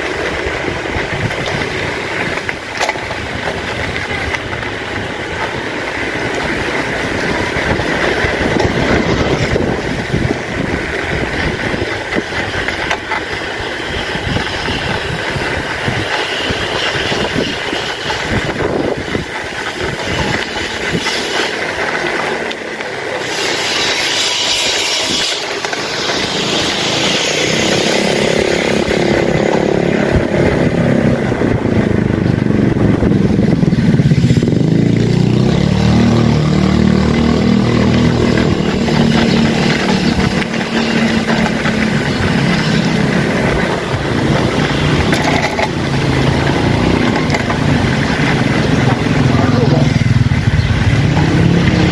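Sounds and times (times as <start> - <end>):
bicycle rattling on rough concrete: 0.0 - 51.9
motor scooter engine: 0.0 - 51.9
road noise rushing: 0.0 - 51.9.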